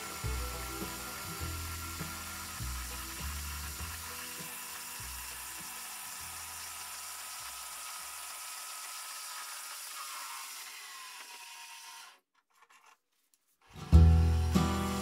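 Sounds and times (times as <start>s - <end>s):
machine winding down: 0.0s - 12.1s, 13.9s - 15.0s
saw grinding through steel: 0.0s - 12.2s.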